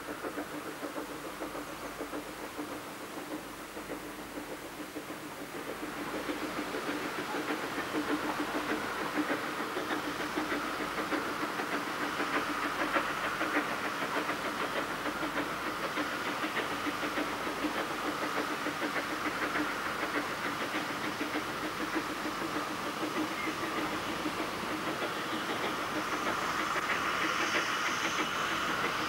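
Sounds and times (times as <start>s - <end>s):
steam locomotive exhaust beats: 0.0s - 29.0s.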